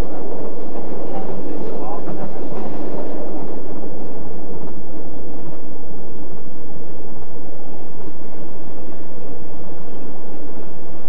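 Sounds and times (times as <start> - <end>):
train carriage rumbling on rails: 0.0 - 11.0.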